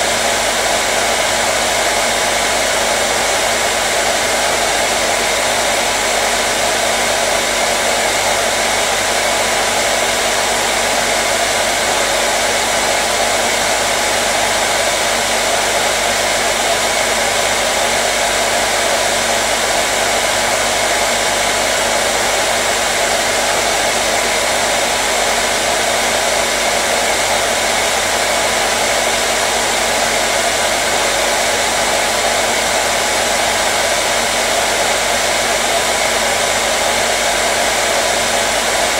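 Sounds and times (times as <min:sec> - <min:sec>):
hair dryer blowing air: 0:00.0 - 0:38.9.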